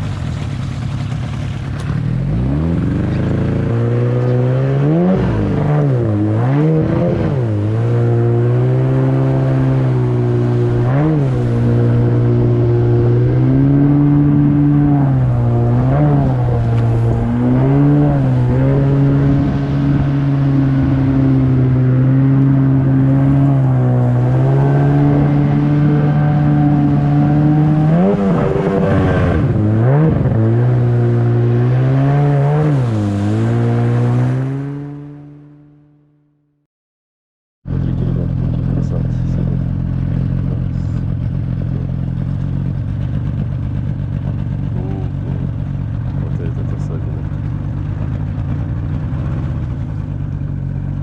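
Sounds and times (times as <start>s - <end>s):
outboard motor running: 0.0s - 4.3s, 5.4s - 29.8s, 37.7s - 51.0s.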